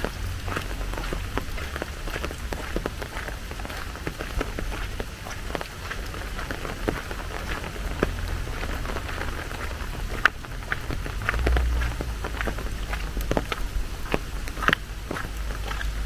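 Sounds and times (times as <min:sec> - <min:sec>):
low rumble: 0:00.0 - 0:16.0
raindrops tapping close by: 0:00.0 - 0:16.0
steady rain: 0:00.0 - 0:16.0.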